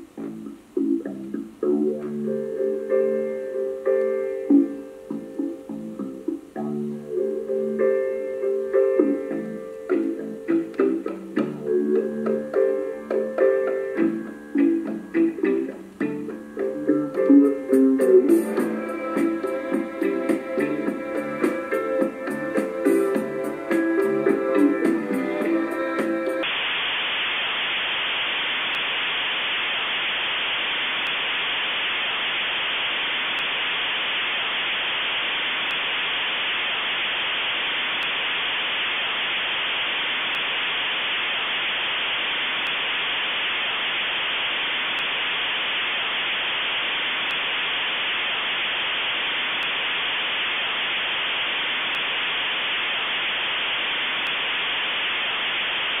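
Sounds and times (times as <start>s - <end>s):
static hiss: 0.0s - 56.0s.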